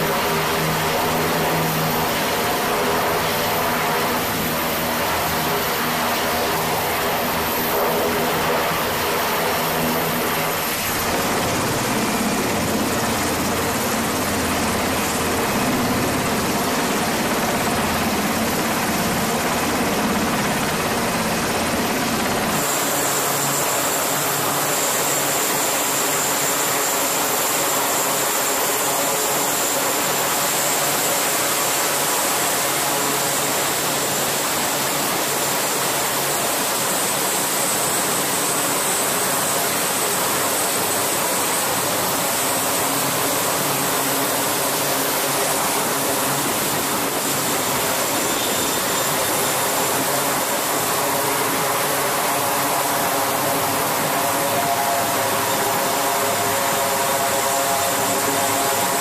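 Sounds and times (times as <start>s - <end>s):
helicopter rotor and turbine: 0.0s - 59.0s
turboprop engines with high whine: 0.0s - 59.0s.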